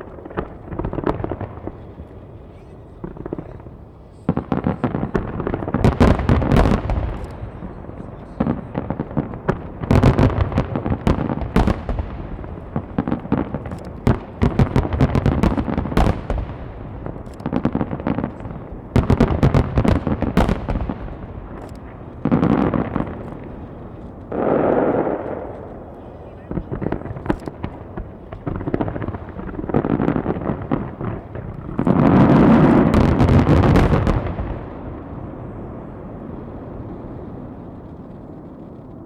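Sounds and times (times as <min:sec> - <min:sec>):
firework shells bursting: 0:00.0 - 0:35.3.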